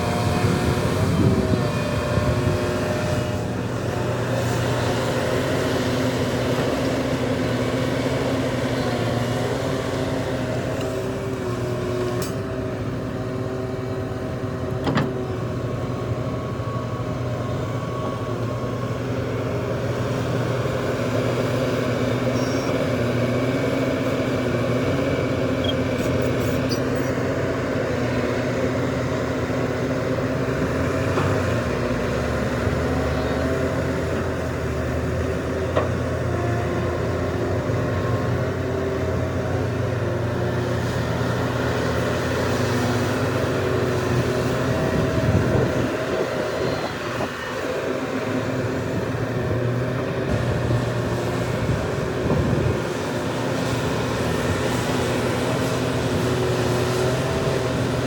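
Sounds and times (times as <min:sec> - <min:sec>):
heavy diesel engines: 0:00.0 - 0:58.0.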